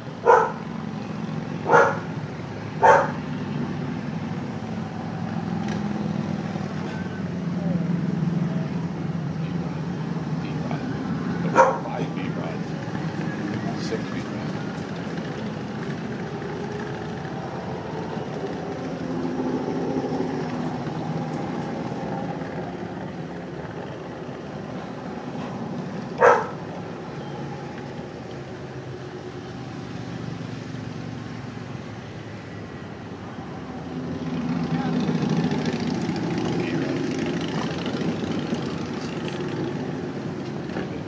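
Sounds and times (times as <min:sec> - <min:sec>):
motorcycles passing: 0:00.0 - 0:41.0.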